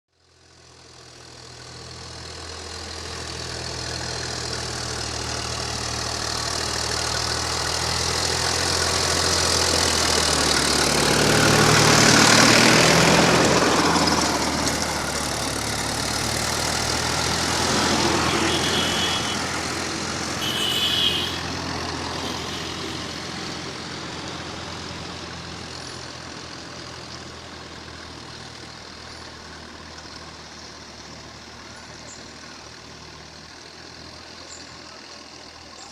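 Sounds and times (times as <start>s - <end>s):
diesel tractor engine under load: 0.1s - 35.9s.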